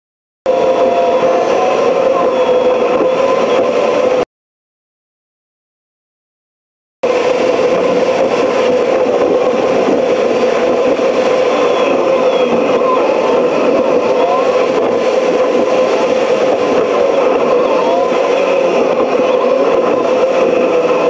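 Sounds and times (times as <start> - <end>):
faint rising whine: 0.5 - 4.2, 7.0 - 21.0.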